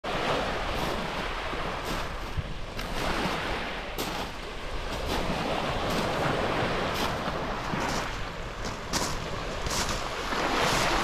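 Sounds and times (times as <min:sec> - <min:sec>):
waves washing on pebble beach: 0:00.1 - 0:11.0.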